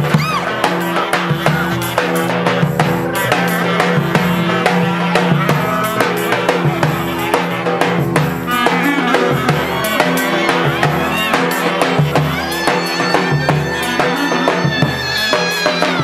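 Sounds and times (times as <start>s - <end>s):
drum kit beat: 0.0s - 16.0s
sliding melody line: 1.0s - 15.8s.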